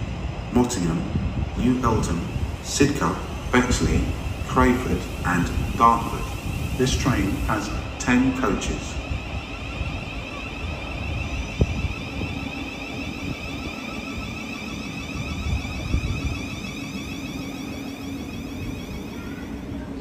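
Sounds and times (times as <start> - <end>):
electric train whine: 0.0 - 20.0.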